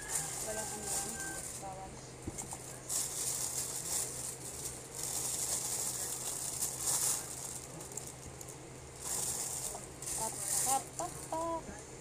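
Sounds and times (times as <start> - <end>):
plastic bag crinkling: 0.0 - 1.8, 2.4 - 11.4.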